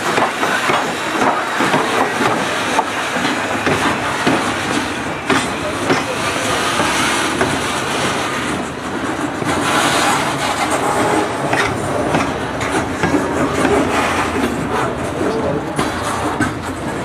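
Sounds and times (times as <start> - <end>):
freight wheels rumbling on rails: 0.0 - 17.0.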